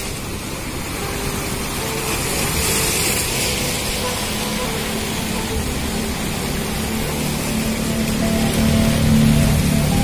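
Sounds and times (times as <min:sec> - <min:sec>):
waves splashing on rocks: 0:00.0 - 0:10.0.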